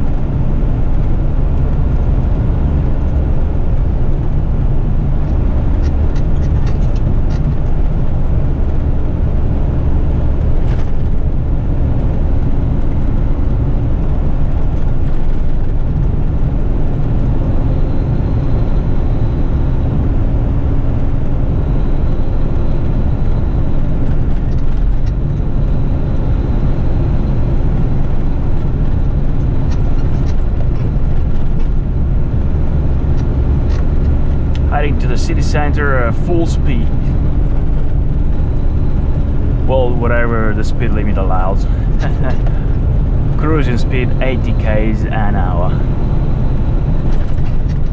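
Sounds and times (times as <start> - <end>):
garbage truck engine running: 0.0 - 47.9.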